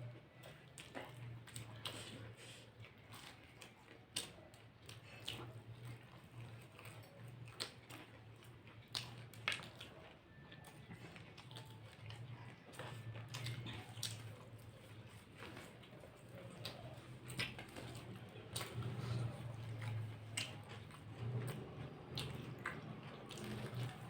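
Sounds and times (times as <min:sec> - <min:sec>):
people chewing crisp snacks: 0:00.0 - 0:24.0.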